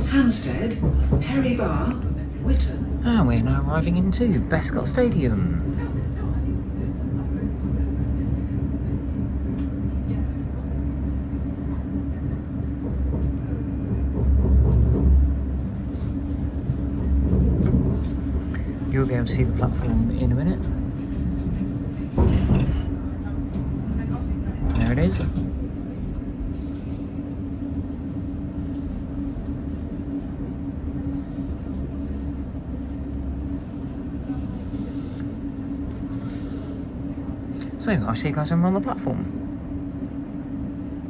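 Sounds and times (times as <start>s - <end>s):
low hum: 0.0s - 41.0s
train rumbling inside carriage: 0.0s - 41.0s.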